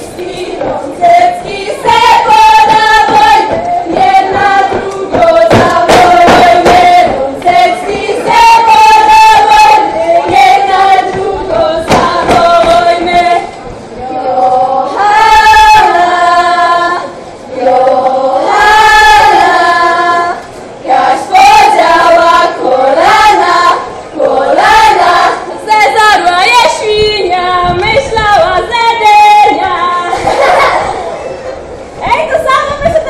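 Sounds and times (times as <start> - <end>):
women singing folk song: 0.0 - 30.7.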